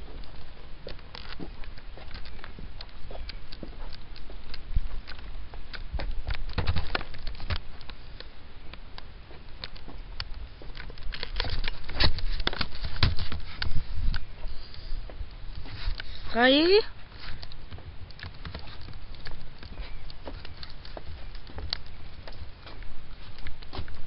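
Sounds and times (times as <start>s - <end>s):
footsteps crunching on trail: 0.0s - 24.0s.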